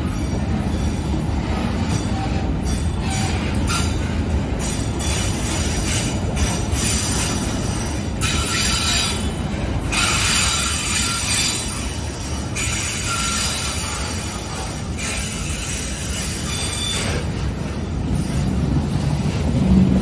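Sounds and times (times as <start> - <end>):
freight train wheels rumbling: 0.0 - 20.0
high wheel squeal: 0.1 - 18.6.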